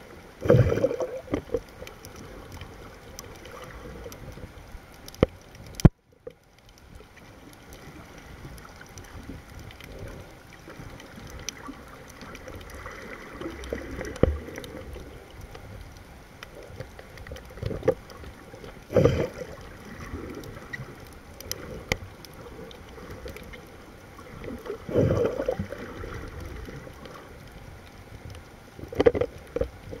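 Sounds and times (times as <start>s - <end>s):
muffled underwater water noise: 0.0s - 30.0s
water surging: 0.0s - 30.0s
faint clicks: 0.4s - 30.0s.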